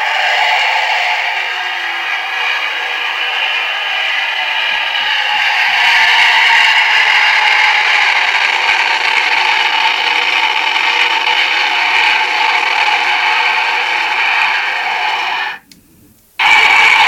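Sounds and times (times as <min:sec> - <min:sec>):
recorded jet engine roar through small speaker: 0:00.0 - 0:17.0.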